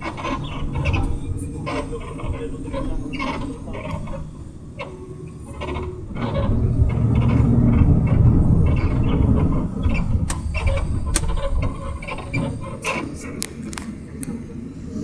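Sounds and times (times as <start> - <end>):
tyres on a wet road: 0.0 - 15.0
vehicle engine rumble: 0.0 - 15.0.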